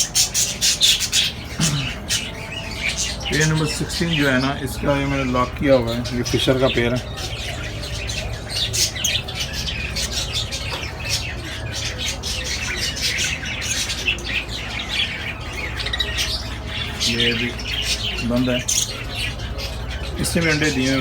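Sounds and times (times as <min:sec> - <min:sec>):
steady low hum: 0:00.0 - 0:18.2
parrots chattering and squawking: 0:00.0 - 0:21.0.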